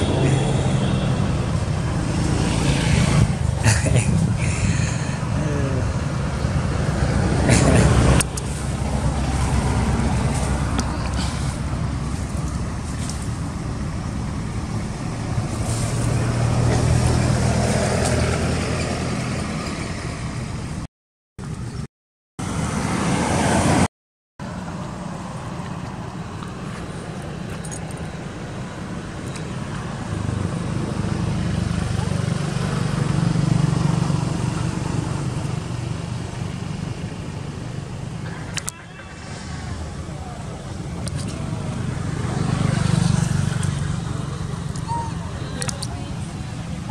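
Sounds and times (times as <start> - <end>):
road traffic hum: 0.0 - 46.9.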